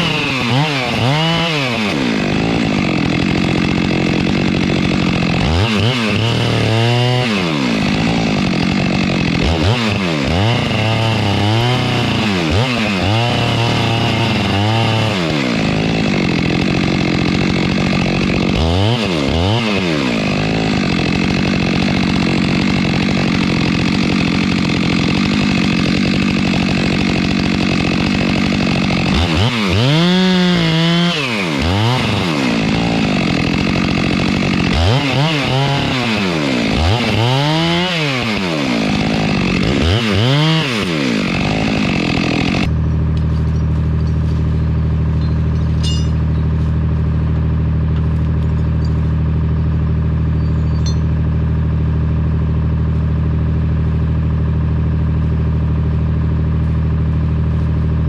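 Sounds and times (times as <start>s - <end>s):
chainsaw running at high revs: 0.0s - 58.0s.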